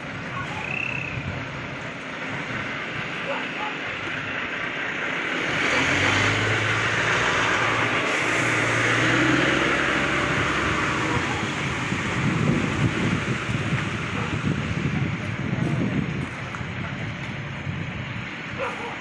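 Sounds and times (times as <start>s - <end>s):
road noise: 0.0s - 19.0s
vehicle engine humming: 0.0s - 19.0s.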